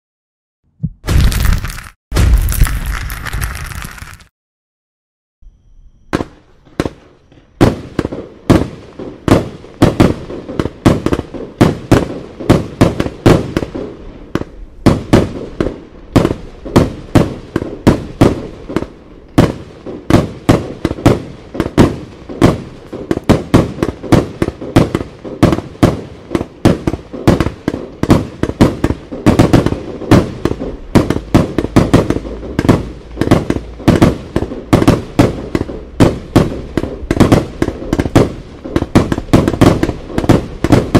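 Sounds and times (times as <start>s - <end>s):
fireworks barrage: 0.8s - 4.3s, 6.1s - 40.9s.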